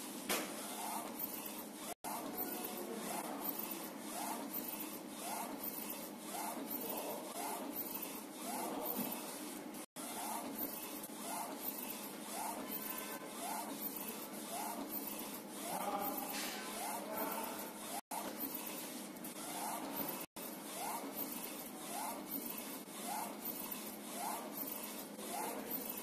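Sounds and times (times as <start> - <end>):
printer carriage motor whine: 0.5 - 26.0.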